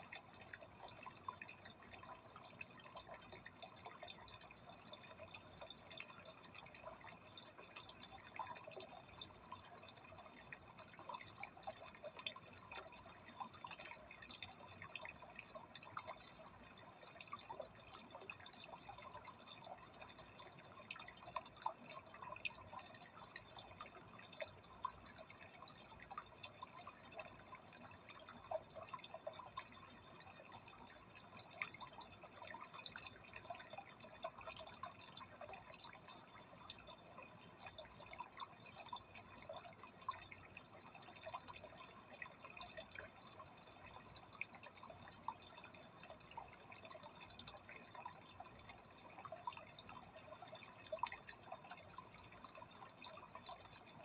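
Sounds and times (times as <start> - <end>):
aquarium water trickling: 0.0 - 54.0.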